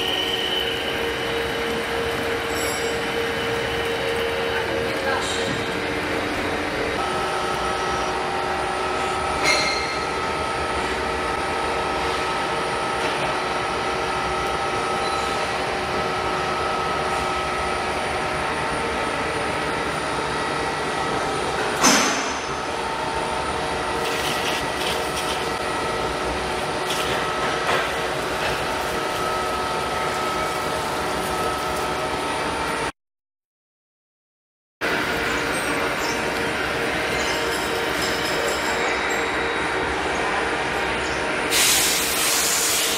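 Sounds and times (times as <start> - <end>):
lathe machine hum: 0.0 - 32.9, 34.8 - 42.9.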